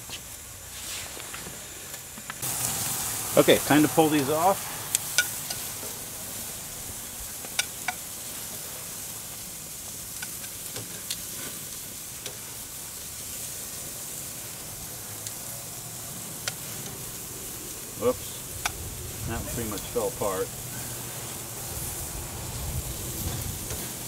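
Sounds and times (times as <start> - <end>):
vegetables sizzling on a grill: 0.0 - 24.0.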